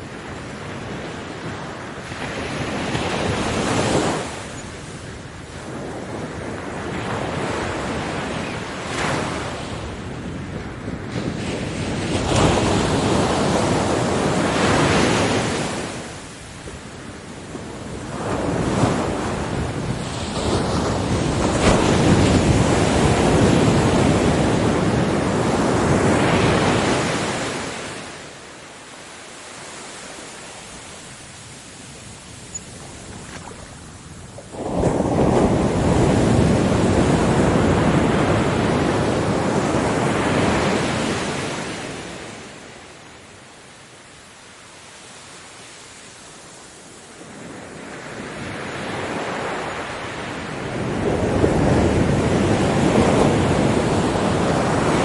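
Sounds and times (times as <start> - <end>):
ocean waves breaking: 0.0 - 43.0, 44.8 - 55.0.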